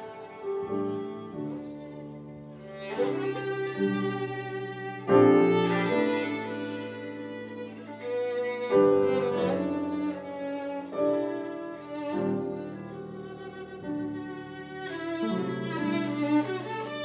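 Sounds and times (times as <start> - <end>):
piano chords: 0.0 - 17.0
violin long bowed notes: 0.0 - 17.0.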